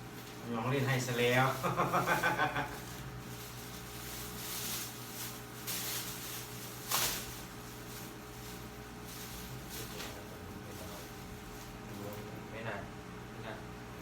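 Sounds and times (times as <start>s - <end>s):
plastic bags rustling: 0.0s - 12.4s
steady low hum: 0.0s - 14.0s.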